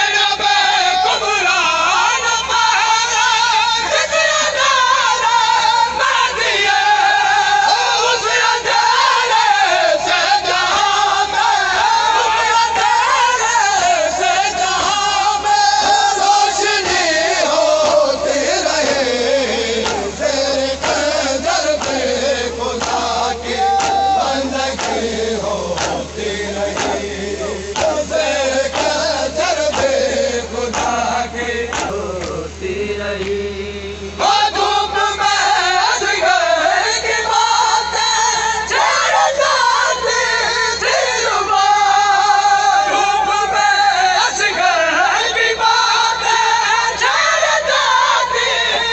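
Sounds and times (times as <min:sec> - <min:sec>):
crowd singing along: 0:00.0 - 0:48.9
men singing a lament: 0:00.0 - 0:48.9.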